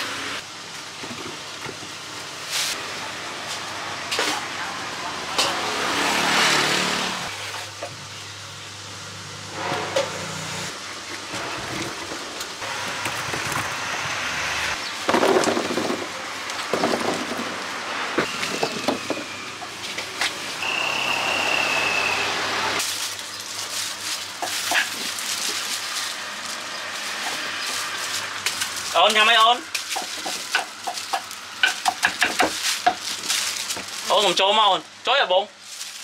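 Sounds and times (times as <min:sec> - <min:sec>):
traffic passing: 0:02.7 - 0:34.3.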